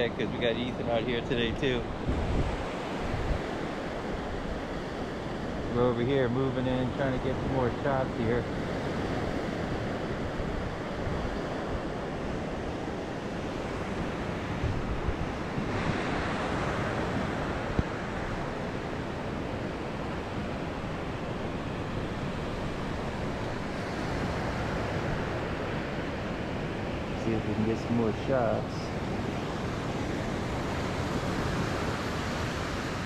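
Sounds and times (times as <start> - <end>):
waves breaking on beach: 0.0 - 33.0
wind buffeting microphone: 0.0 - 33.0.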